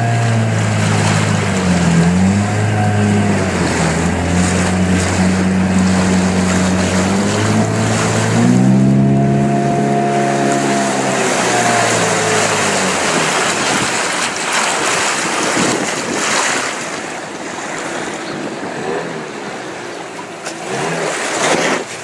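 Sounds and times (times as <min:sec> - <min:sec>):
wind on microphone: 0:00.0 - 0:20.2
boat motor running: 0:00.0 - 0:22.0
rushing splashing water: 0:00.0 - 0:22.0.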